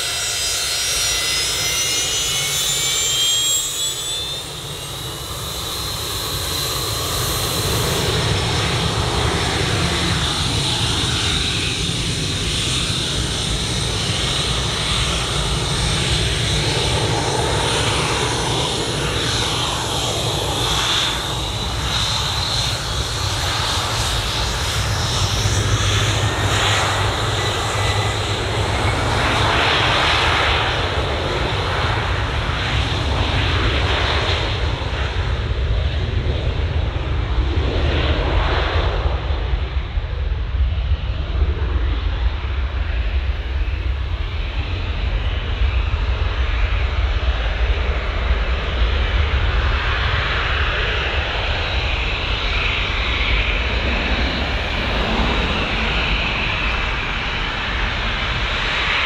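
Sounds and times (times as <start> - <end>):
jet engines roaring with whine: 0.0 - 59.0.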